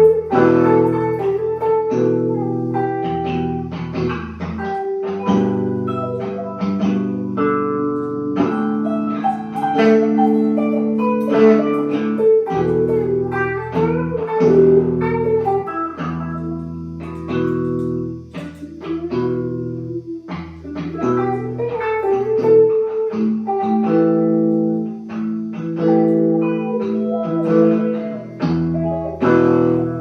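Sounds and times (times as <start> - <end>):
blues guitar plucked notes: 0.0 - 30.0.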